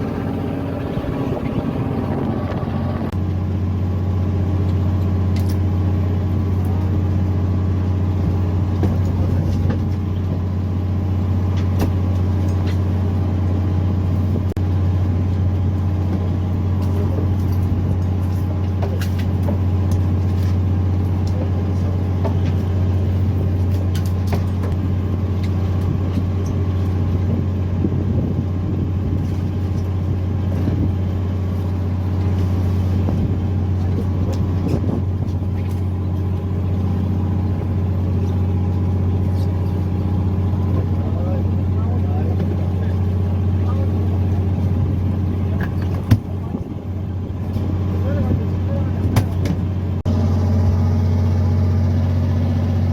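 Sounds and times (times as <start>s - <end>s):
boat engine humming: 0.0s - 52.9s.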